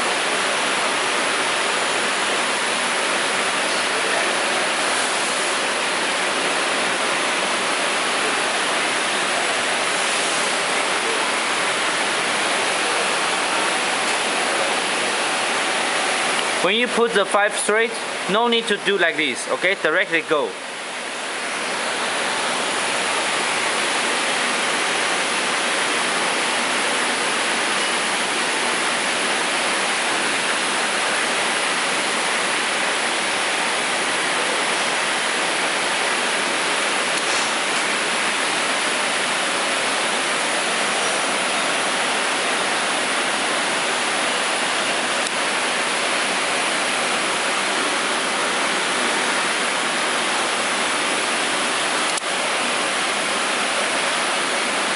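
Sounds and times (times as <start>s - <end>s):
steady hiss: 0.5s - 54.9s.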